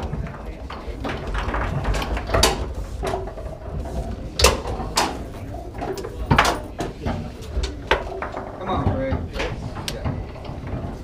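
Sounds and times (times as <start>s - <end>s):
foosball clacks: 0.0s - 11.0s.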